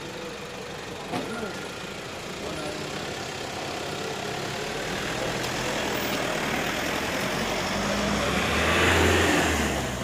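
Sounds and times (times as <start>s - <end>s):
car engines idling: 0.0s - 8.5s.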